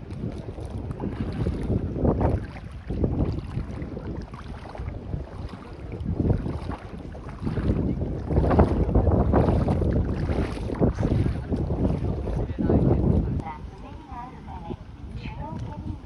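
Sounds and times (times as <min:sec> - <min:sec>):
sea waves washing on beach: 0:00.0 - 0:16.0
wind buffeting microphone: 0:00.0 - 0:16.0.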